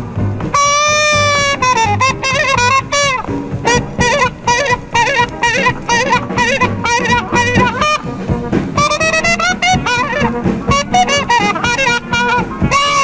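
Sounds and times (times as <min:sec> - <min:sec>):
jazz band playing live: 0:00.0 - 0:13.0.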